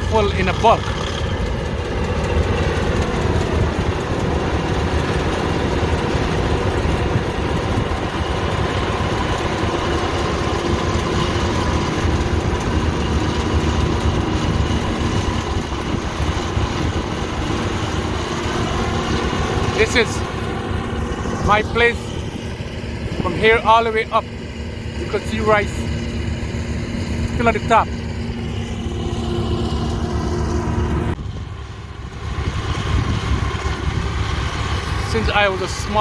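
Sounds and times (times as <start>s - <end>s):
combine harvester engine droning: 0.0s - 36.0s.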